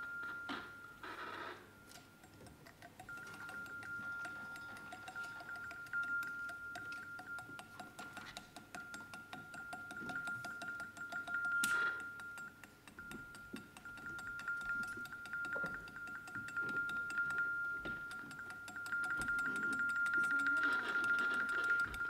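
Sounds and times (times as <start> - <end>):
objects clicking and clinking: 1.8 - 22.0
fast even ticking: 1.9 - 22.0.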